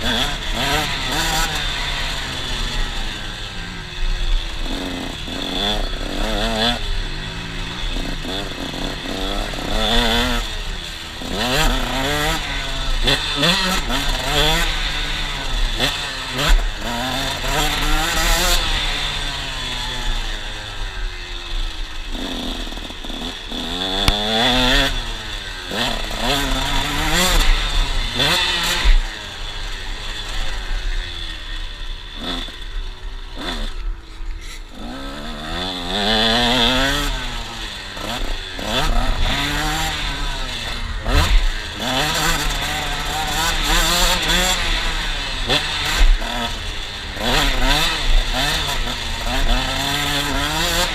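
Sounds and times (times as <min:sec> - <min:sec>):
two-stroke motocross engine revving: 0:00.0 - 0:50.9.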